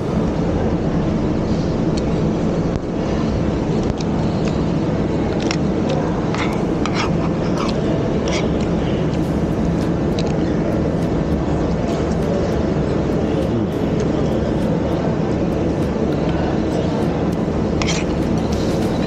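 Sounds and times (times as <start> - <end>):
low background din: 0.0 - 19.0.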